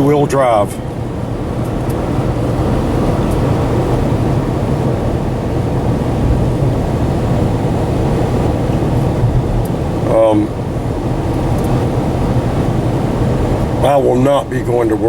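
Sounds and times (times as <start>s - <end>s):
car engine rumble: 0.0s - 15.0s
tyre noise on snowy road: 0.0s - 15.0s.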